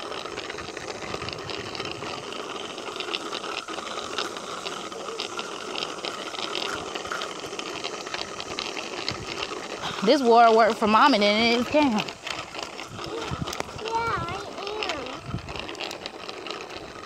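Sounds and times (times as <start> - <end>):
bicycle rattles and clicks: 0.0 - 17.0
bicycle tyres hissing on asphalt: 0.0 - 17.0.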